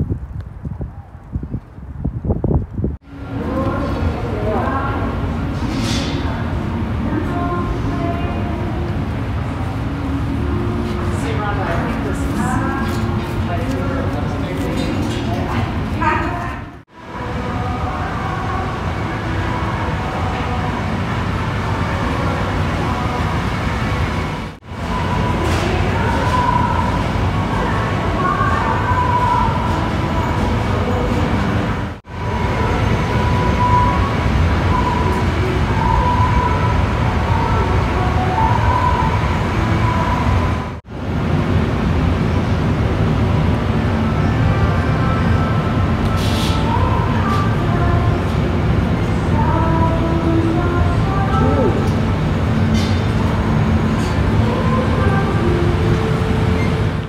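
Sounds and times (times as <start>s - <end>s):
low rumble of store ambience: 0.0s - 57.0s.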